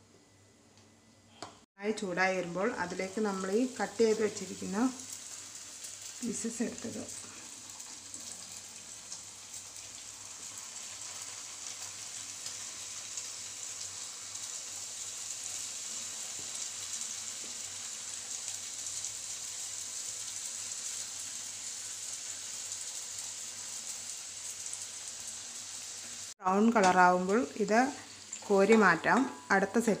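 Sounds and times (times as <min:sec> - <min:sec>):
dough sizzling in hot oil: 0:02.0 - 0:30.0.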